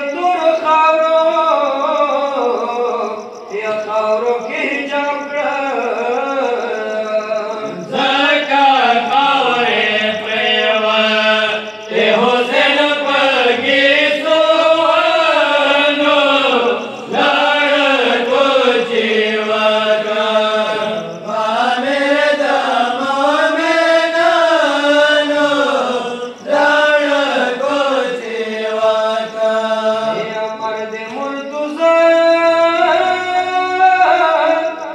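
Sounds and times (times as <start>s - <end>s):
person chanting a mourning lament: 0.0s - 34.9s.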